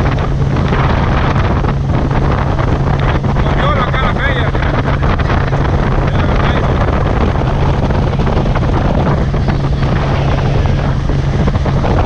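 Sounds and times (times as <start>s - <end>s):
outboard motor drone: 0.0s - 12.0s
water rushing past hull: 0.0s - 12.0s
wind buffeting microphone: 0.0s - 12.0s.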